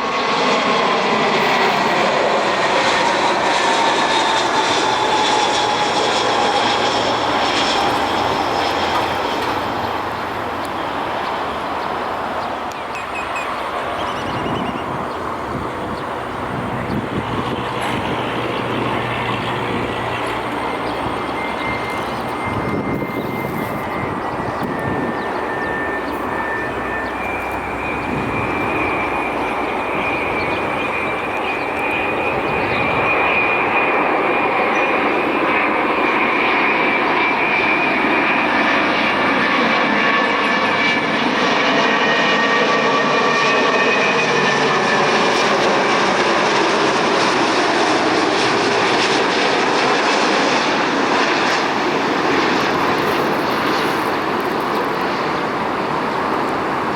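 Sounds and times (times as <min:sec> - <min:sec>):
jet airliner engines passing over: 0:00.0 - 0:56.9.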